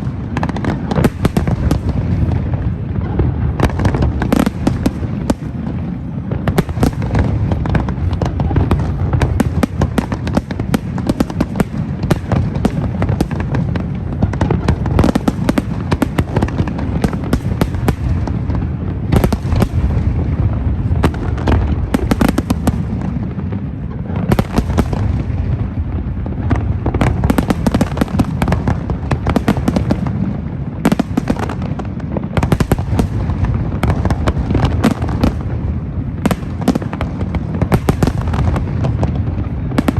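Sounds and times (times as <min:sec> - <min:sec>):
deep firework bursts: 0:00.0 - 0:39.9
sharp firework bangs and crackling: 0:00.0 - 0:39.9.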